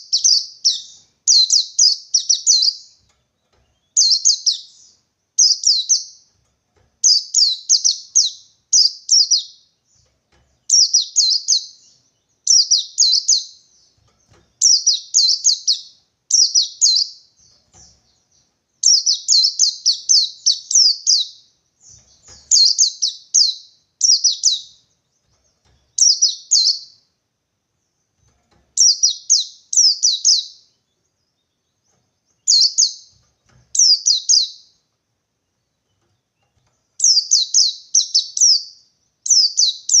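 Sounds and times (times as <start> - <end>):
bird chirping in quick bursts: 0.0 - 3.0, 3.8 - 6.3, 7.0 - 14.0, 14.6 - 27.1, 28.8 - 30.9, 31.5 - 34.8, 37.0 - 40.0.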